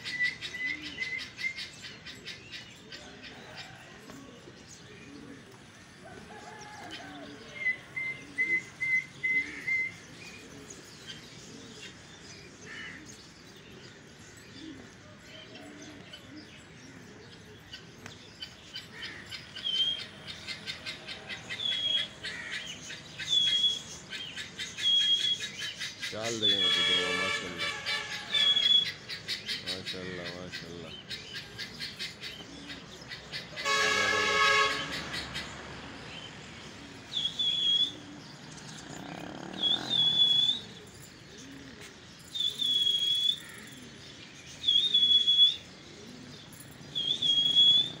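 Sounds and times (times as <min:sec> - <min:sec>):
birds chirping: 0:00.0 - 0:48.0
pigeons cooing: 0:00.0 - 0:48.0.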